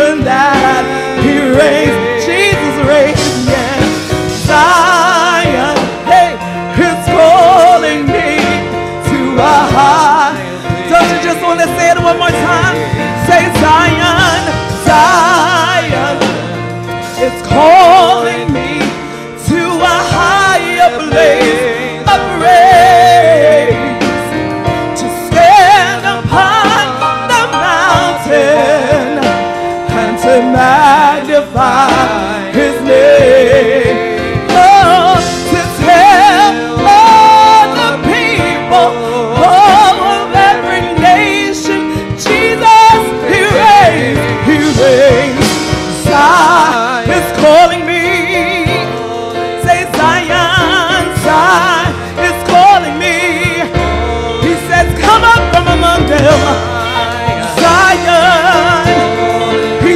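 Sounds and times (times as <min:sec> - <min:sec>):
woman singing gospel: 0:00.0 - 0:59.9.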